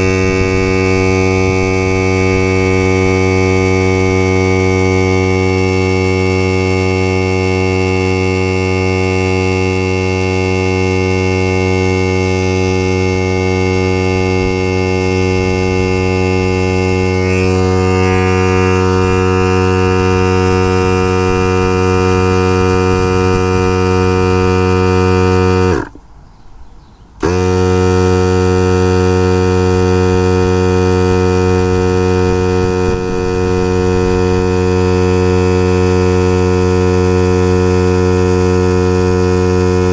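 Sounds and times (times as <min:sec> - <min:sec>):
air compressor humming: 0:00.0 - 0:26.2, 0:27.2 - 0:39.9.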